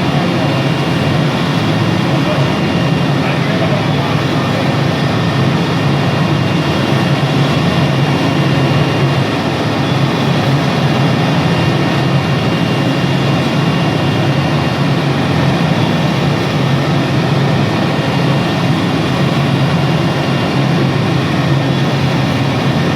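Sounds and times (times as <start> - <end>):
faint high whine: 0.0 - 22.9.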